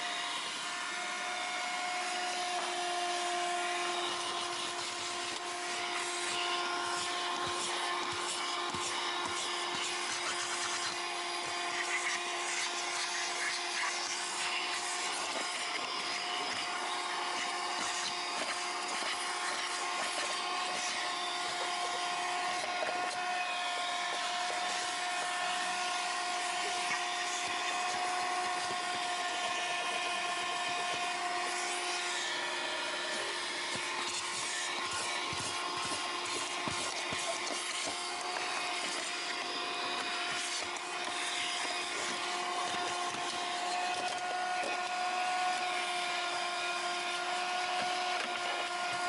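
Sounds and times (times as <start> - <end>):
vacuum cleaner motor whine: 0.0 - 49.0.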